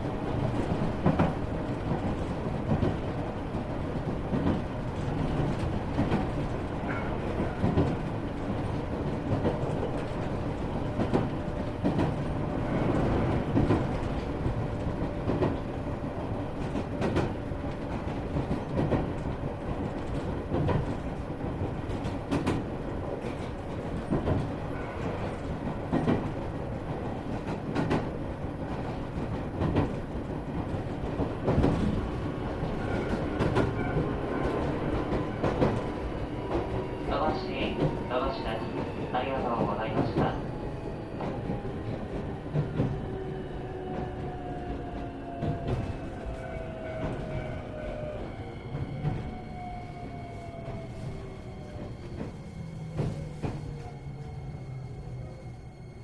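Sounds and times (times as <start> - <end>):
rail joint clickety-clack: 0.0 - 56.0
train wheels rumbling on rails: 0.0 - 56.0.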